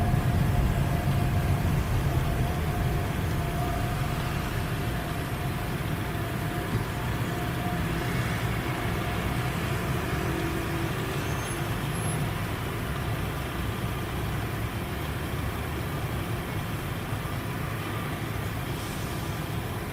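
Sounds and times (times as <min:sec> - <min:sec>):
road traffic rumble: 0:00.0 - 0:19.9.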